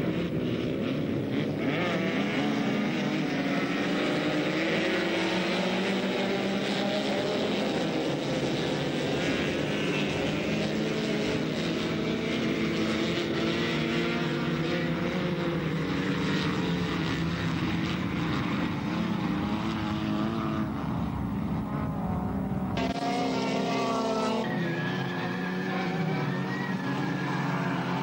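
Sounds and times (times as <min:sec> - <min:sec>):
race car engines revving past: 0:00.0 - 0:28.0.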